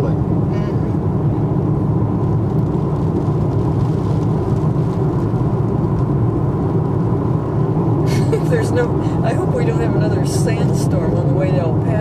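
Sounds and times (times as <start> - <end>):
moving car noise: 0.0 - 12.0.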